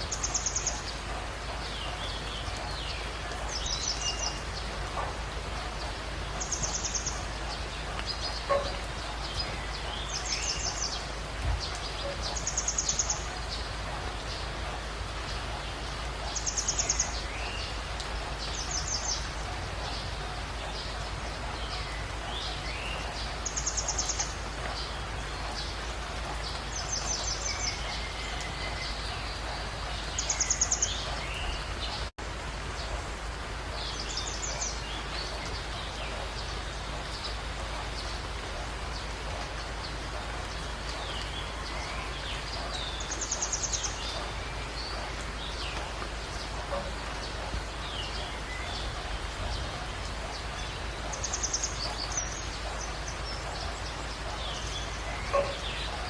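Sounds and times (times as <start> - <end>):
steady background hiss: 0.0 - 56.0.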